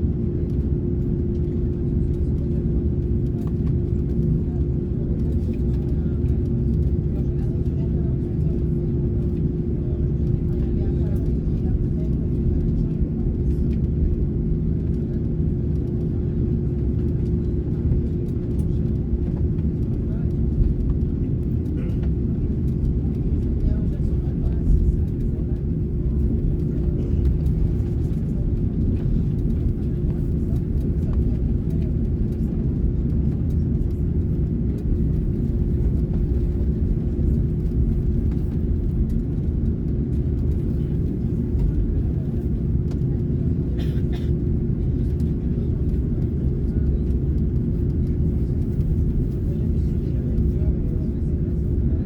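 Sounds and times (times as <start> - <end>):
aircraft cabin engine rumble: 0.0 - 52.0.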